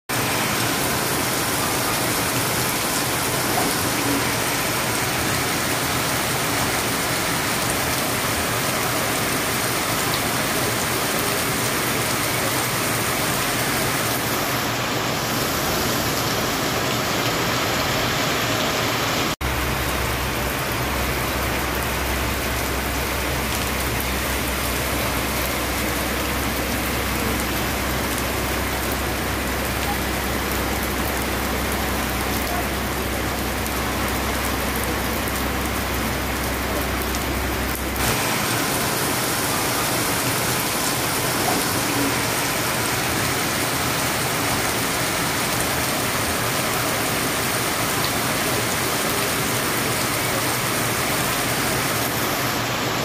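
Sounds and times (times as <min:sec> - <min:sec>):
heavy rain falling: 0:00.1 - 0:53.0.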